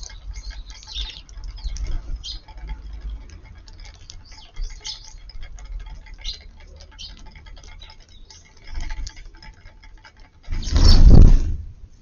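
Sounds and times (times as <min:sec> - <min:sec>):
beaks pecking at seed: 0:00.0 - 0:11.3.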